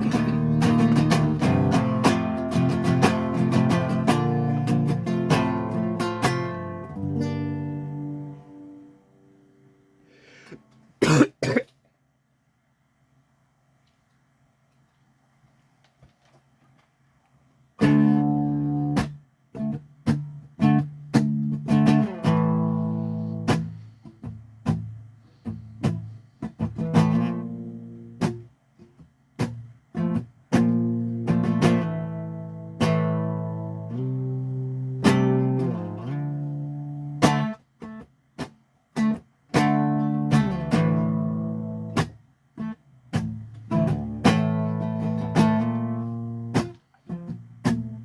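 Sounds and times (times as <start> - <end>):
guitar strumming chords: 0.0 - 9.8, 17.8 - 48.0.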